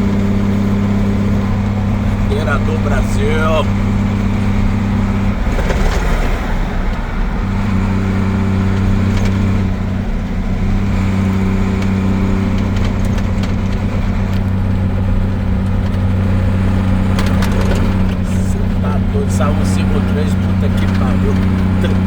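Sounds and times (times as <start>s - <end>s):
road and tyre noise: 0.0s - 22.0s
truck engine running: 0.0s - 22.0s.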